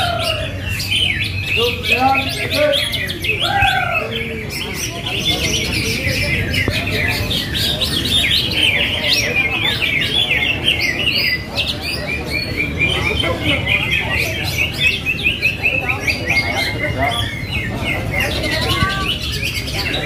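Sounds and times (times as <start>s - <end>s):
chorus of birds chirping and trilling: 0.0s - 20.0s
murmur of people: 0.0s - 20.0s.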